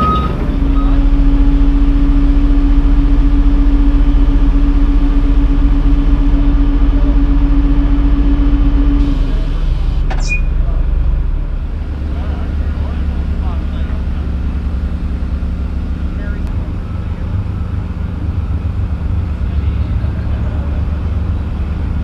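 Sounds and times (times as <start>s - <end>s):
diesel engine rumble: 0.0s - 22.0s
steady hum: 0.0s - 22.0s.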